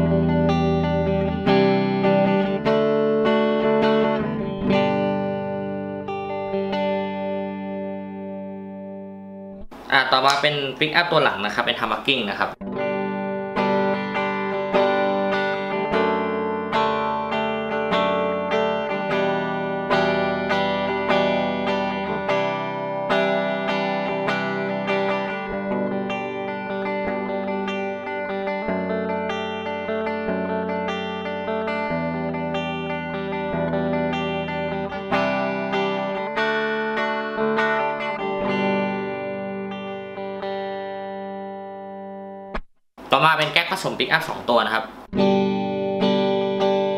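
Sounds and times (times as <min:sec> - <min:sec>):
clean electric guitar chords: 0:00.0 - 0:09.7, 0:12.5 - 0:42.6, 0:45.1 - 0:46.9.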